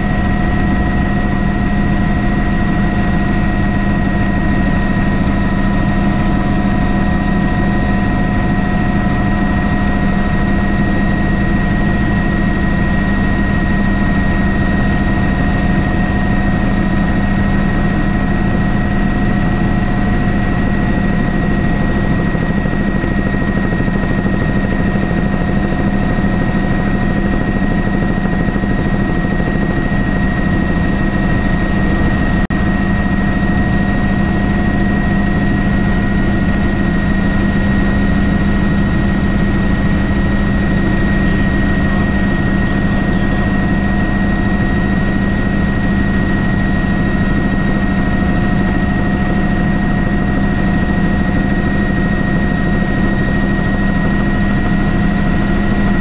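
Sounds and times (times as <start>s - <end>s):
helicopter rotor and engine: 0.0s - 56.0s.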